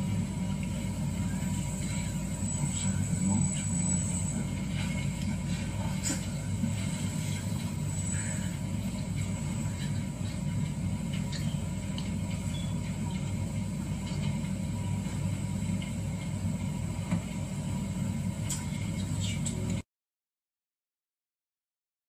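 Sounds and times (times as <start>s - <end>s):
faint constant hum: 0.0s - 19.8s
steady low rumble: 0.0s - 19.8s.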